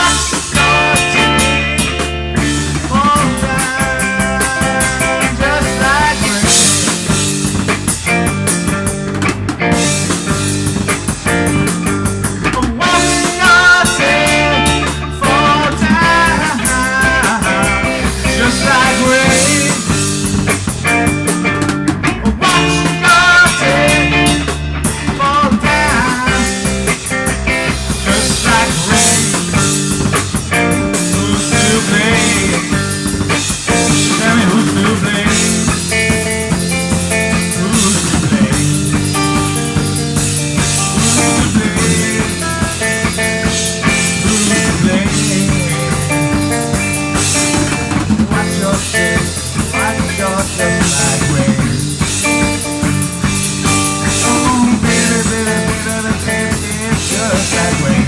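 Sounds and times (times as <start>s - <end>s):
bass and drum kit: 0.0s - 58.0s
guitar: 0.0s - 58.0s
rock music: 0.0s - 58.0s.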